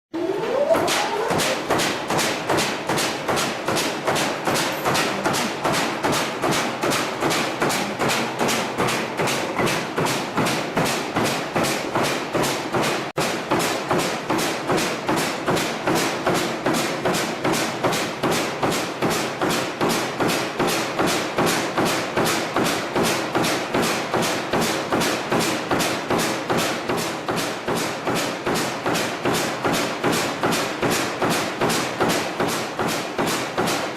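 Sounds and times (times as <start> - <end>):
metal mesh machine blade thudding: 0.2 - 33.9.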